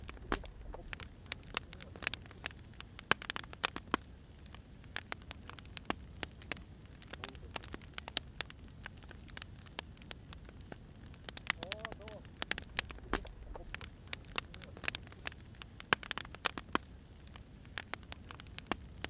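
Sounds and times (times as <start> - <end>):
firewood burning and crackling: 0.0 - 19.0.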